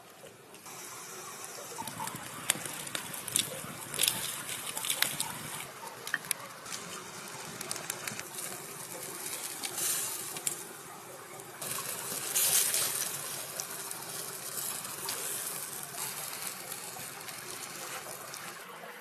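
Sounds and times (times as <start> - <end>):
fire crackling pops: 0.0 - 18.7
meat sizzling over a fire: 0.0 - 18.7.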